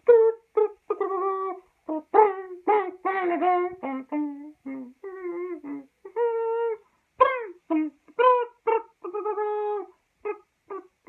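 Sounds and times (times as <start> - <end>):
person imitating ringtone by mouth: 0.0 - 10.9.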